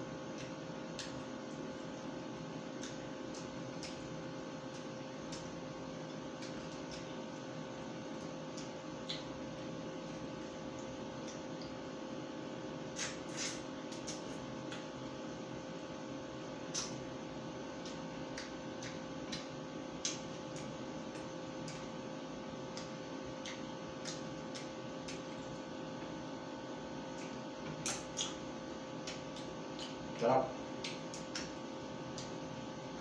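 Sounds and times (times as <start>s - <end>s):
steady hum: 0.0s - 33.0s
chewing mouth clicks and smacks: 0.2s - 2.0s, 2.6s - 11.9s, 12.9s - 15.0s, 16.5s - 26.1s, 27.0s - 32.6s.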